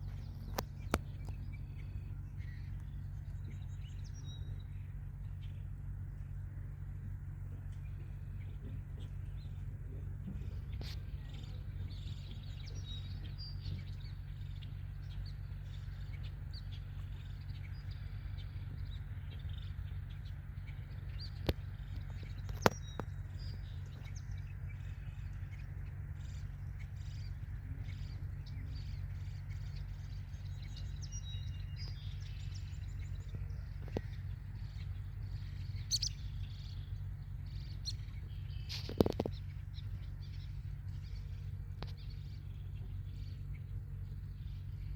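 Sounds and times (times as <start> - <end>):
steady low rumble: 0.0 - 44.9
ducklings chirping: 7.8 - 44.9.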